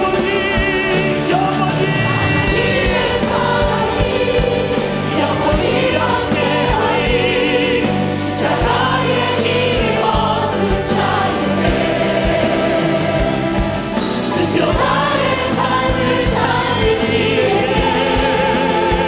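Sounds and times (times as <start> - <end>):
band accompaniment: 0.0 - 19.0
choir singing a hymn: 0.0 - 19.0
steady drum beat: 0.0 - 19.0.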